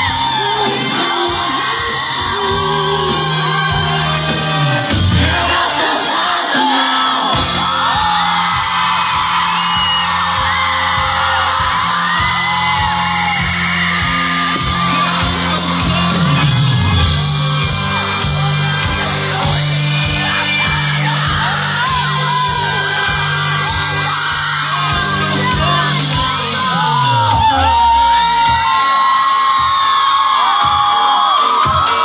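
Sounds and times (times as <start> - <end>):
crowd singing and yelling: 0.0 - 32.0
live pop band playing: 0.0 - 32.0.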